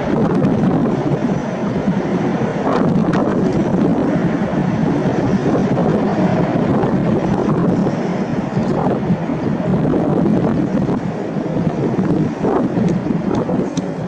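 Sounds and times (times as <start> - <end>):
jet airliner engines rumbling: 0.0 - 14.0
wind buffeting microphone: 0.0 - 14.0.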